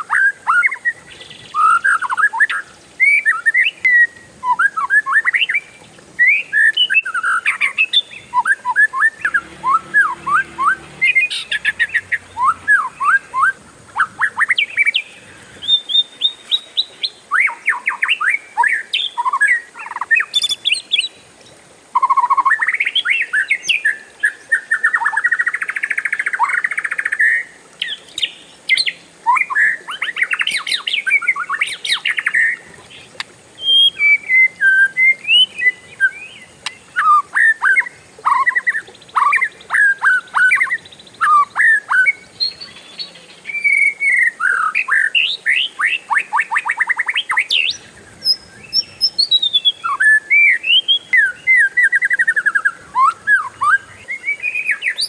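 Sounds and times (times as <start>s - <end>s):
bird singing whistles and trills: 0.0s - 21.2s, 22.0s - 55.0s.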